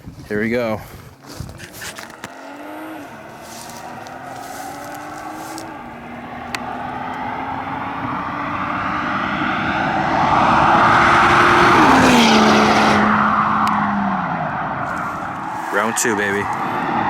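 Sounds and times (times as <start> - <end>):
car engine accelerating: 1.7 - 17.0.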